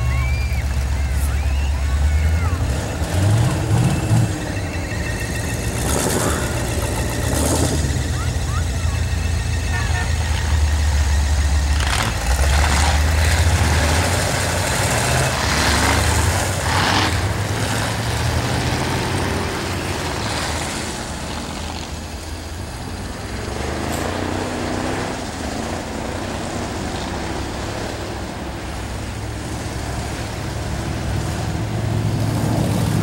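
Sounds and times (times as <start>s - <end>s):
race car engines idling and revving: 0.0s - 33.0s.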